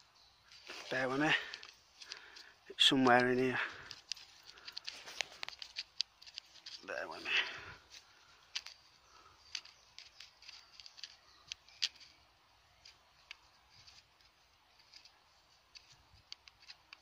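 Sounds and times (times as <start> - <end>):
crackles and scrapes in soil: 0.0 - 17.0.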